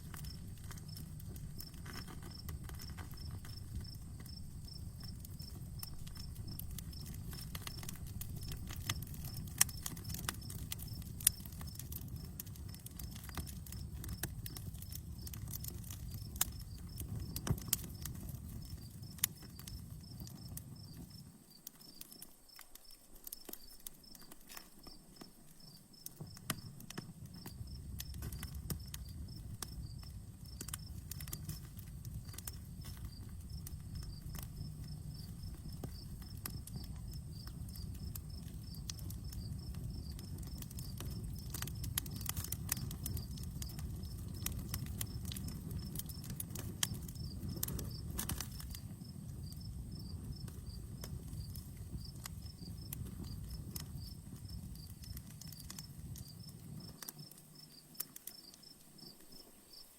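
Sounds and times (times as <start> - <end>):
low rumble of flames: 0.0 - 59.2
campfire crackling and popping: 0.0 - 59.9
crickets chirping: 0.0 - 59.9.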